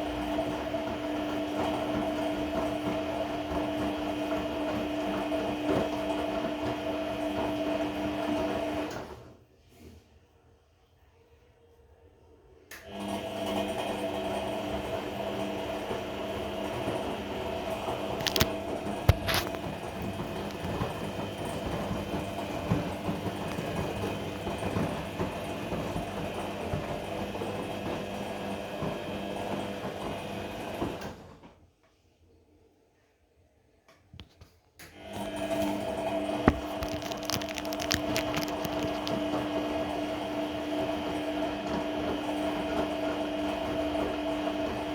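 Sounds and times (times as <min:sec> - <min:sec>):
washing machine motor running: 0:00.0 - 0:09.4, 0:12.8 - 0:31.6, 0:34.9 - 0:44.9.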